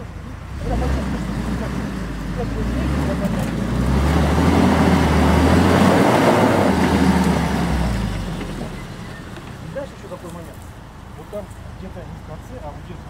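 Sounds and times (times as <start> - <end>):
engine working hard under load: 0.0 - 13.0
tyres churning dirt: 0.0 - 13.0.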